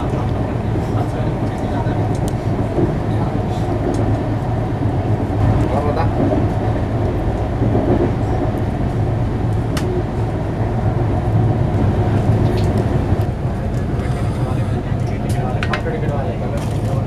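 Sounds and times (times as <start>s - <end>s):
train coach rumbling: 0.0s - 17.0s.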